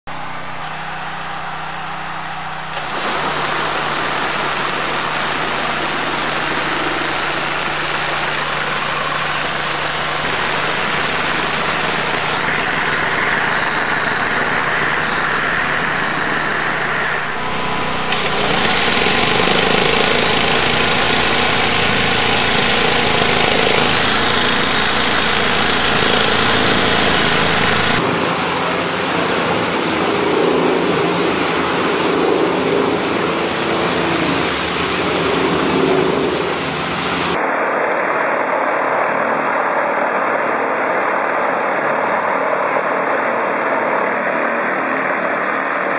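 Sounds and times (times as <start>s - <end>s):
pump motor running: 0.2s - 45.9s
high-pressure water jets hissing: 2.8s - 45.9s.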